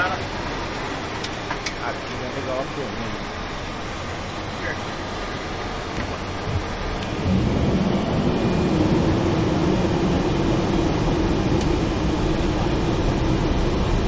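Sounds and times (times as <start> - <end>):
engine and airflow rumble: 0.0 - 14.0
steady drone: 1.9 - 14.0.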